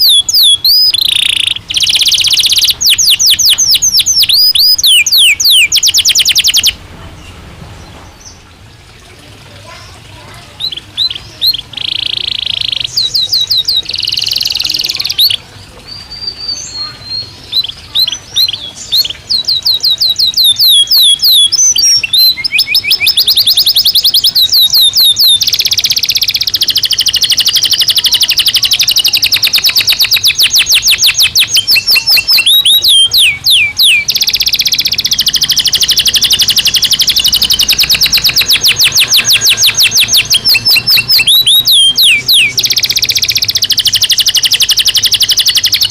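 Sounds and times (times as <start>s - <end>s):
canary singing: 0.0s - 8.6s, 9.6s - 45.9s.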